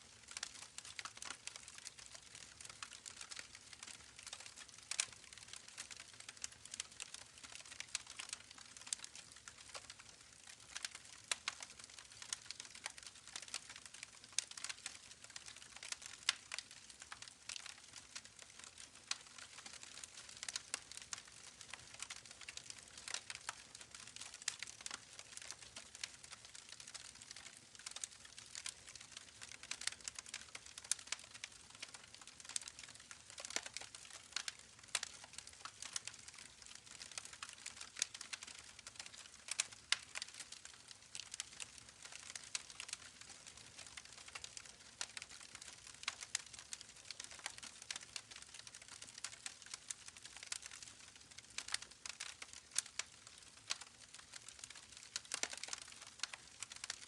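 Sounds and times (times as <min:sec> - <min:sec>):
campfire crackling: 0:00.2 - 0:57.0.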